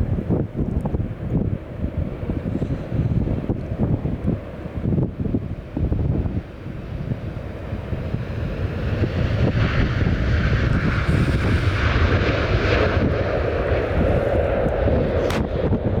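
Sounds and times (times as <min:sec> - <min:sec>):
jet engines roaring: 0:00.3 - 0:16.0.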